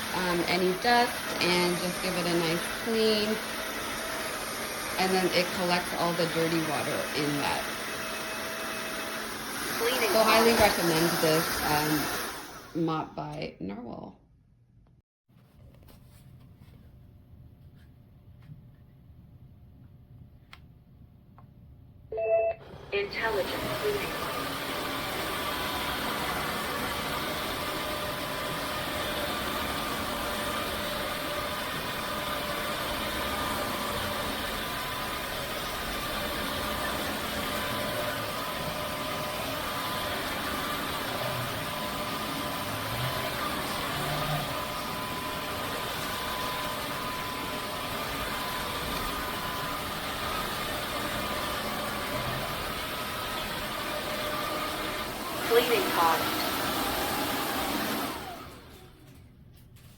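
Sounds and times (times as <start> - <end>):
vacuum mop motor hum: 0.0 - 13.0, 22.6 - 59.2.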